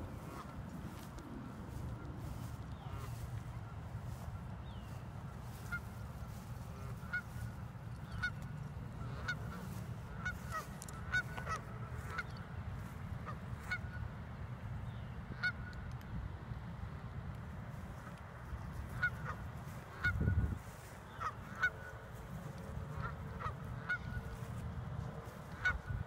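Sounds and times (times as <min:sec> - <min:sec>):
geese honking: 0:00.0 - 0:14.2, 0:15.3 - 0:15.8, 0:17.9 - 0:26.0.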